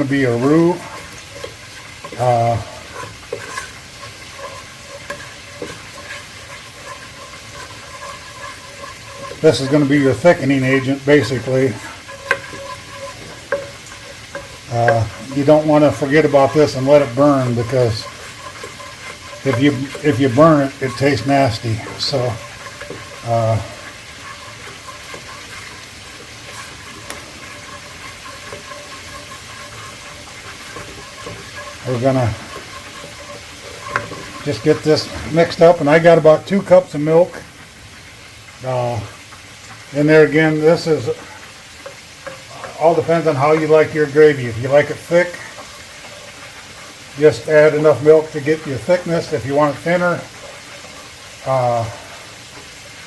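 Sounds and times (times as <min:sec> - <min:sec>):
roux sizzling in a pan: 0:00.0 - 0:53.0
spoon scraping a pan: 0:00.0 - 0:53.0.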